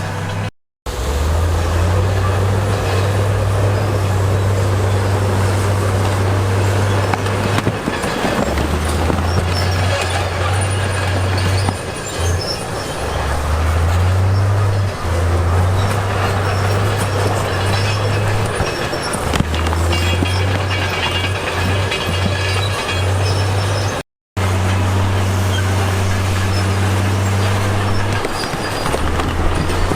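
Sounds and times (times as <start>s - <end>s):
bulldozer diesel engine drone: 0.0s - 29.9s
steel tracks squealing and clanking: 0.0s - 29.9s.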